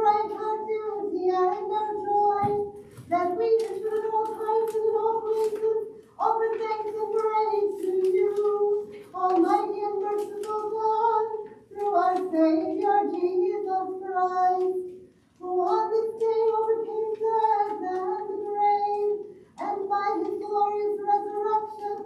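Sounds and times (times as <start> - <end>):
person singing a hymn: 0.0 - 22.0.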